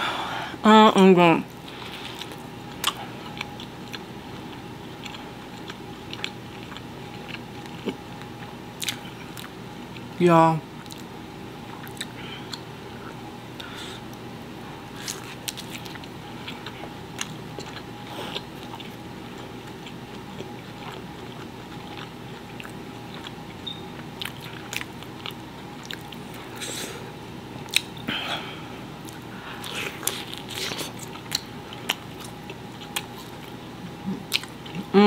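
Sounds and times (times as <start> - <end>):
person chewing: 1.5 - 10.2, 10.8 - 11.1, 11.7 - 14.2, 14.9 - 35.0.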